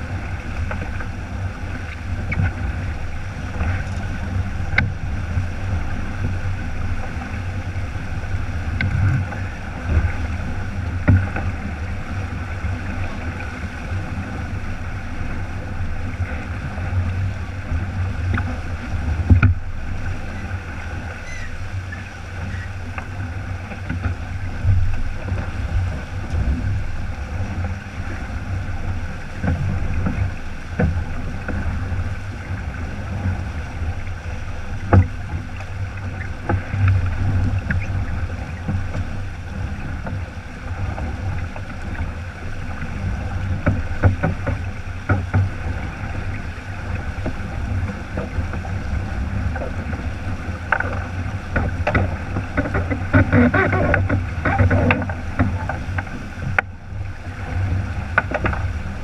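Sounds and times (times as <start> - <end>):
water rushing along a hull: 0.0 - 59.0
wind rumble on microphone: 0.0 - 59.0.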